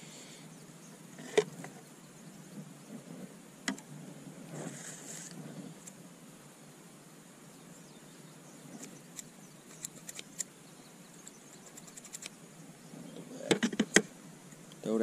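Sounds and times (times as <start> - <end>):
quiet hiss: 0.0 - 15.0.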